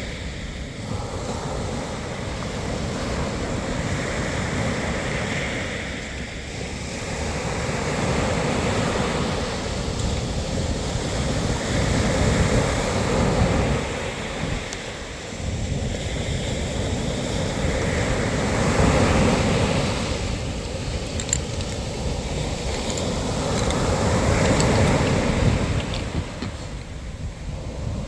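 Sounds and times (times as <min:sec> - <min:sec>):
sea waves breaking on shore: 0:00.0 - 0:28.0.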